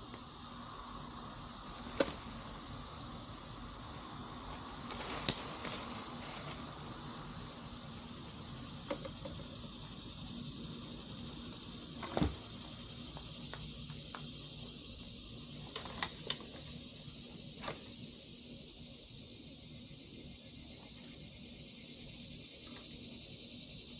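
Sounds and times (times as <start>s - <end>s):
steady background hiss: 0.0s - 23.9s.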